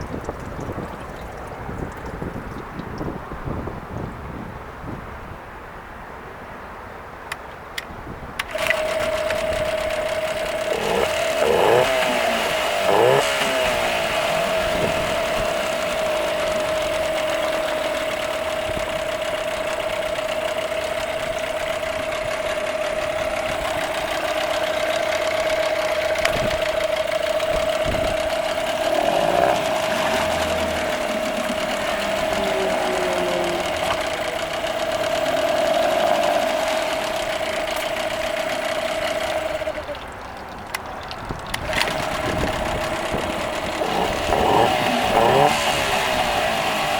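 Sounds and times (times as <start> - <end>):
outboard motor running: 0.0 - 4.6, 8.4 - 46.9.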